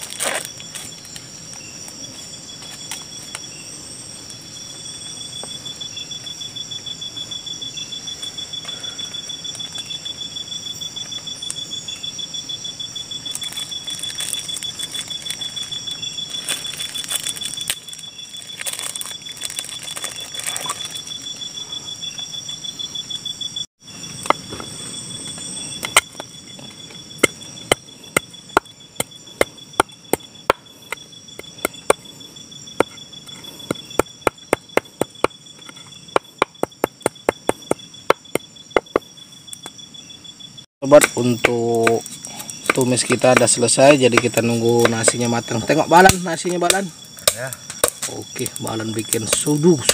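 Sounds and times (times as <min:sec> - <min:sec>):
night insects chirring: 0:00.0 - 0:49.9.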